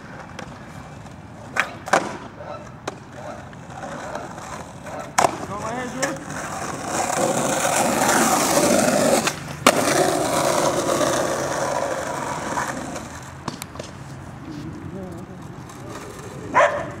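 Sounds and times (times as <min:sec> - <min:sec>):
skateboard clacking on road: 0:00.0 - 0:17.0
skateboard wheels rolling on asphalt: 0:00.0 - 0:17.0.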